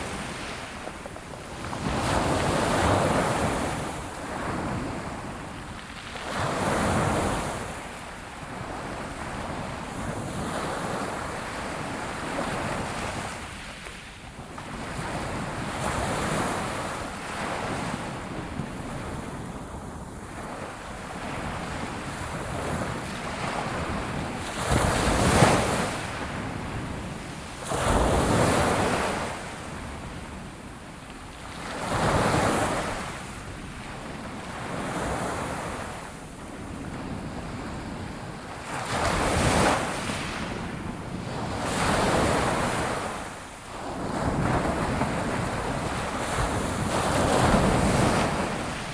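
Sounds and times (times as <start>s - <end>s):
ocean waves on shore: 0.0s - 48.9s.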